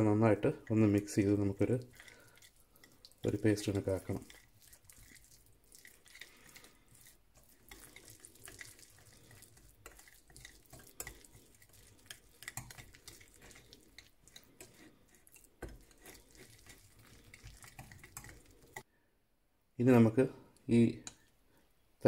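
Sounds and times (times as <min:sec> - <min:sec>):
paste being stirred and mashed: 0:00.4 - 0:18.9.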